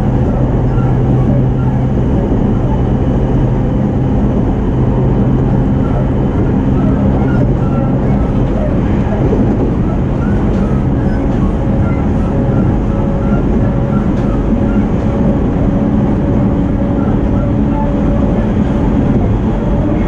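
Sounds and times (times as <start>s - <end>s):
traction equipment hum: 0.0s - 20.0s
train wheels rumbling on rail: 0.0s - 20.0s.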